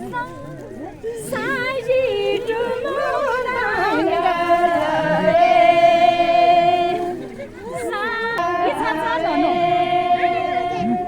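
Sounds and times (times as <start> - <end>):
women singing unaccompanied: 1.0 - 11.0.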